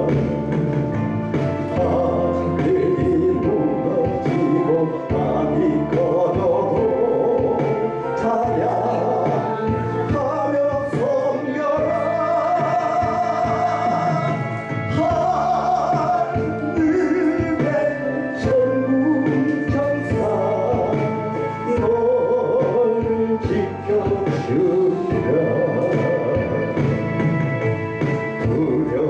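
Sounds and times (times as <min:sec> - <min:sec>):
gospel song with band: 0:00.0 - 0:29.0
singer holding long notes: 0:00.0 - 0:29.0.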